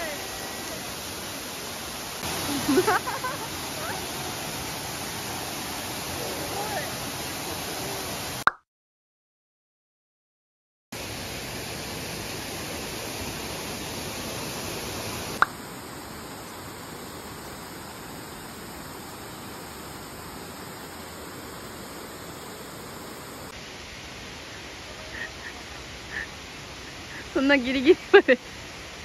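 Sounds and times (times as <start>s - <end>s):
waterfall rushing: 0.0s - 8.4s, 11.0s - 29.0s.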